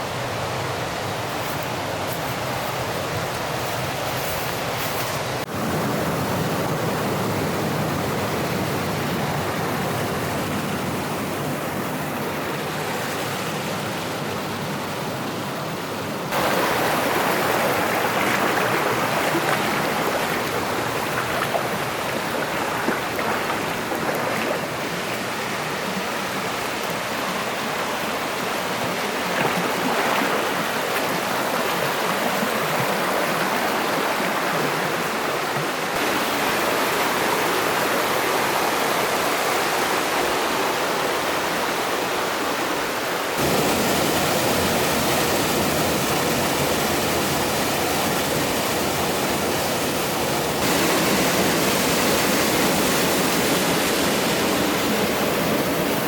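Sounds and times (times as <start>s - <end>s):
rushing stream water: 0.0s - 56.0s.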